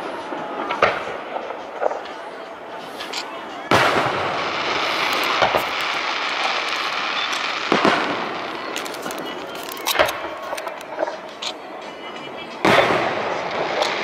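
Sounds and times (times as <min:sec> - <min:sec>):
firework shells booming: 0:00.0 - 0:02.2, 0:03.0 - 0:11.4, 0:12.6 - 0:14.0
steady hiss: 0:01.3 - 0:14.0.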